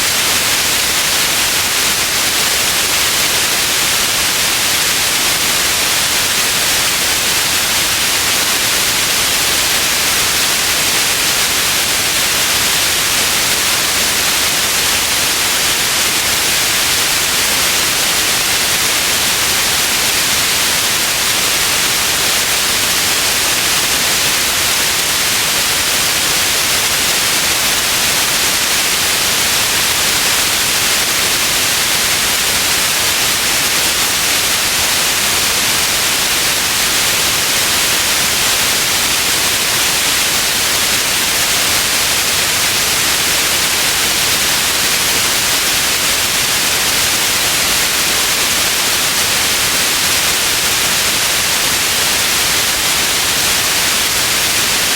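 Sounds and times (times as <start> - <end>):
white noise hiss: 0.0 - 54.9.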